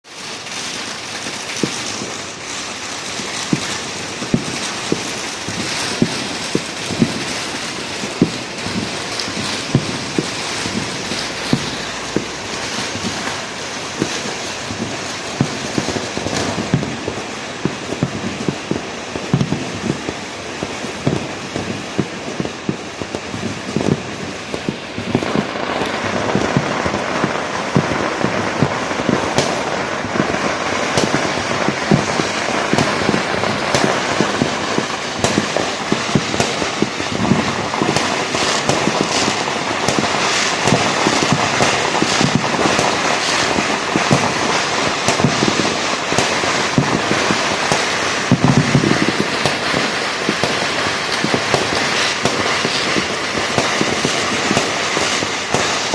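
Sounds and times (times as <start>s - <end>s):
fireworks crackling: 0.0s - 55.9s.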